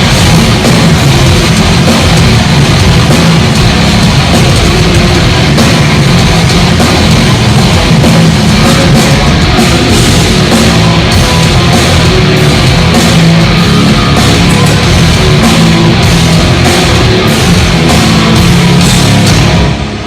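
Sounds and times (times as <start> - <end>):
bass guitar: 0.0 - 20.0
distorted electric guitars: 0.0 - 20.0
pounding drum kit: 0.0 - 20.0.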